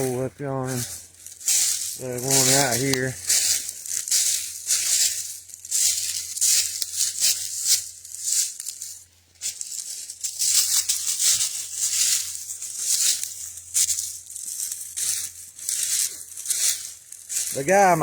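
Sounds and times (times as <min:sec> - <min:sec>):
footsteps crunching: 0:00.0 - 0:18.0.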